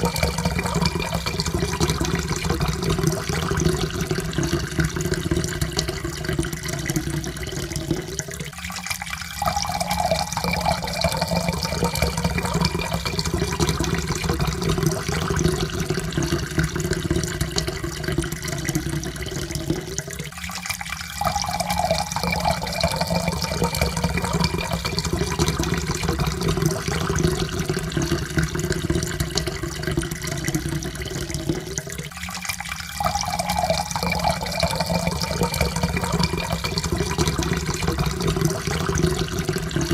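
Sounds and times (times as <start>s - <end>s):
water pouring into cup: 0.0s - 39.9s.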